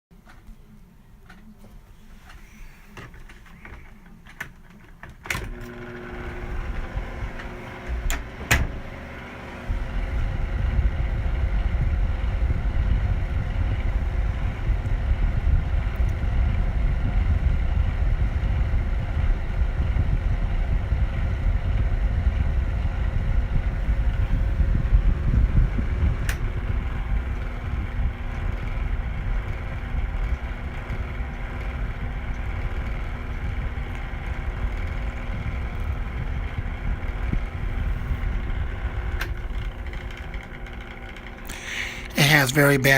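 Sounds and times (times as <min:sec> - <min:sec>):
fan motor humming: 0:00.2 - 0:42.9
bad bearings rumbling: 0:05.6 - 0:42.9.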